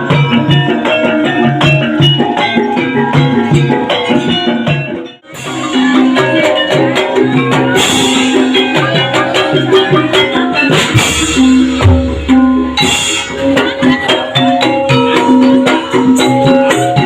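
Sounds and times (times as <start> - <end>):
hand drum pattern: 0.0 - 17.0
ringing metallophone notes: 0.0 - 17.0.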